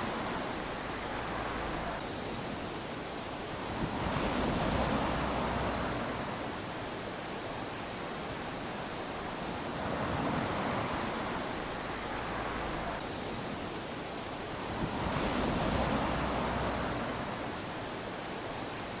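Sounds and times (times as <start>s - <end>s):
small waves lapping on sand: 0.0s - 19.0s.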